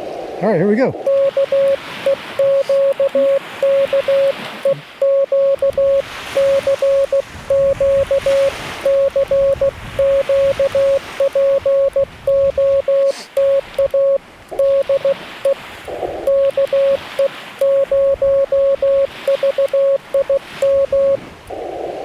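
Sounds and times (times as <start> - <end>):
morse code tone: 1.0 - 15.6, 16.2 - 21.2.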